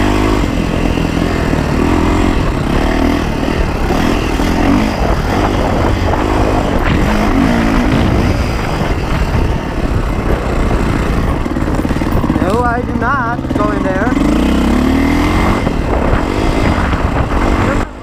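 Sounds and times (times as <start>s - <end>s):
dirt bike engine revving: 0.0s - 18.0s
rushing noise: 0.0s - 18.0s.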